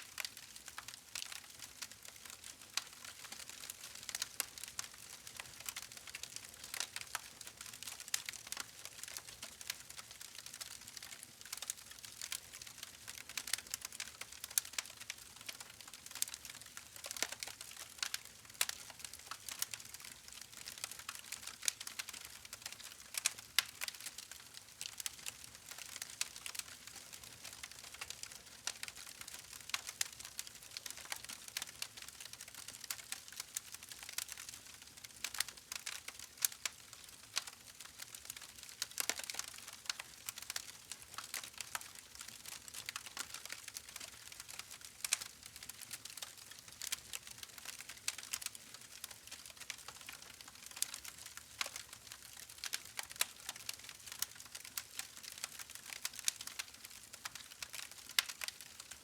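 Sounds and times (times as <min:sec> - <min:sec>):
campfire crackling and popping: 0:00.2 - 0:59.0.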